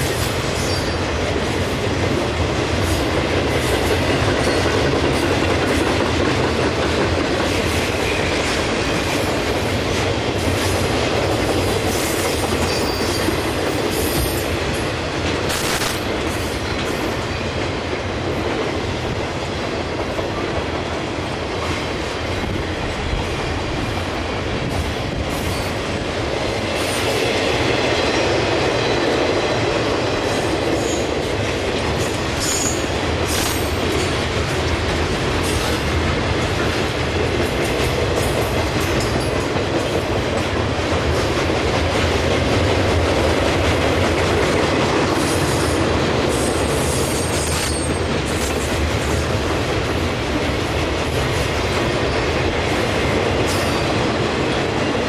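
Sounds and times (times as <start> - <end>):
train cars rumbling past: 0.0 - 55.0.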